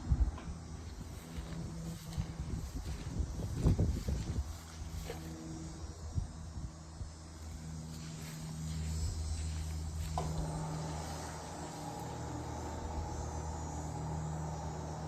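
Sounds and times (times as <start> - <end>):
higher steady buzz: 0.0 - 15.0
low mechanical hum: 0.0 - 15.0.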